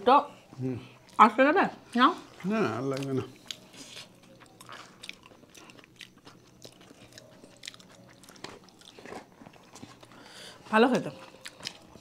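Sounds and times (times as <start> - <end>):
person chewing food: 2.3 - 12.0.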